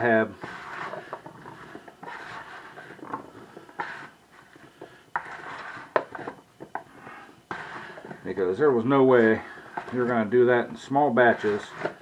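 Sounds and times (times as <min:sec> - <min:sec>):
potatoes stirred in a bowl: 0:00.0 - 0:12.0.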